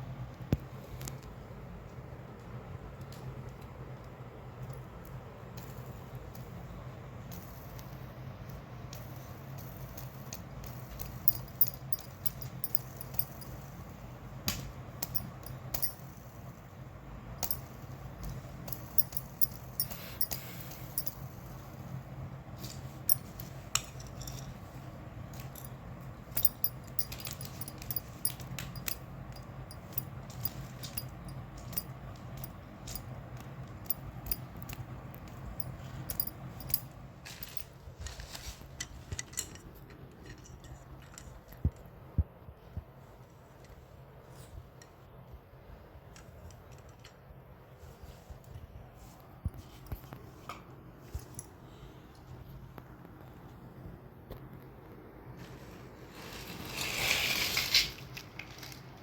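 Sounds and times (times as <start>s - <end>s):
steady low hum: 0.0s - 56.1s.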